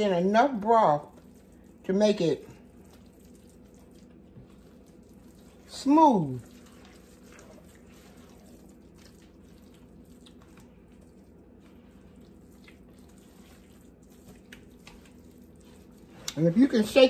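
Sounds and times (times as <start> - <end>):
wet squishing: 0.0 - 17.0.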